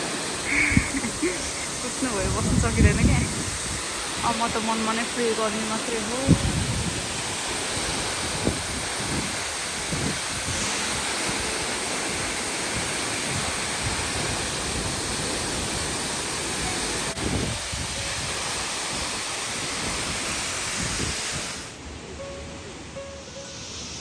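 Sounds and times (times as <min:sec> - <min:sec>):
waterfall rushing: 0:00.0 - 0:24.0
wind on microphone: 0:00.5 - 0:04.8, 0:05.9 - 0:21.7.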